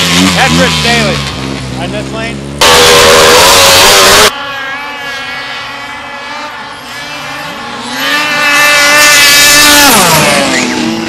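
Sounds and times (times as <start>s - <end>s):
distant engine whine: 0.0s - 11.0s
snowmobile engine at high revs: 0.0s - 11.0s.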